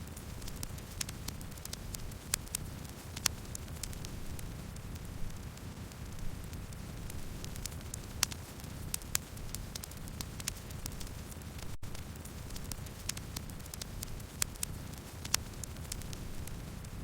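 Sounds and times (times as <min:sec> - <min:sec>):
burning wood crackling and popping: 0:00.0 - 0:17.0
campfire burning: 0:00.1 - 0:17.0.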